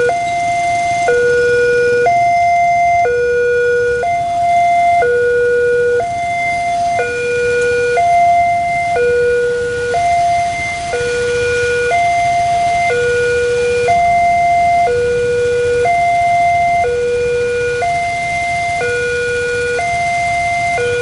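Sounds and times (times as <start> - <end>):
two-tone level-crossing alarm: 0.0 - 21.0.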